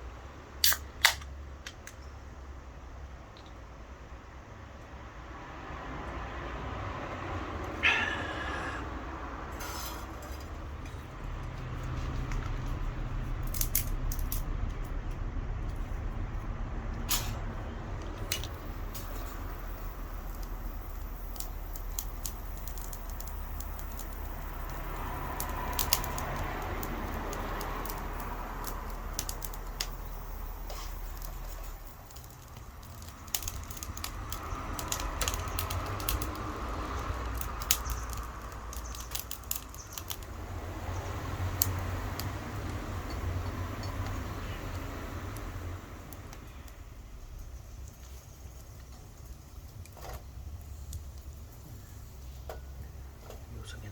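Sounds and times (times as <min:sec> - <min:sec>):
wood fire crackling and popping: 0:00.6 - 0:02.3, 0:09.4 - 0:53.2.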